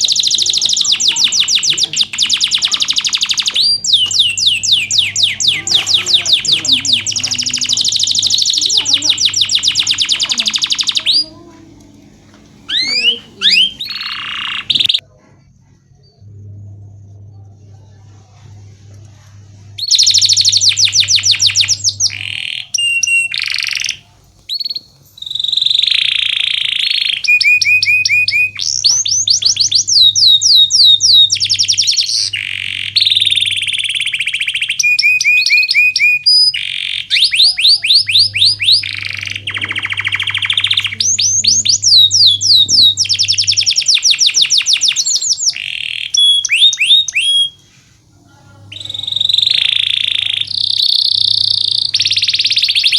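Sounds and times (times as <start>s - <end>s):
canary singing trills: 0.0s - 15.0s, 19.8s - 52.9s.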